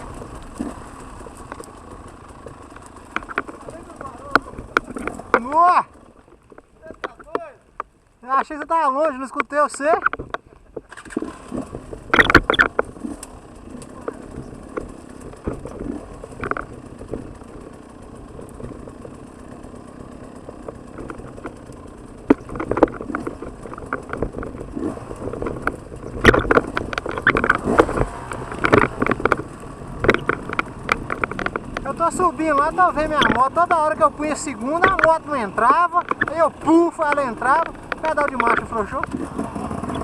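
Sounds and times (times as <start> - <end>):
motorcycle engine revving: 0.0 - 8.0, 9.9 - 40.0.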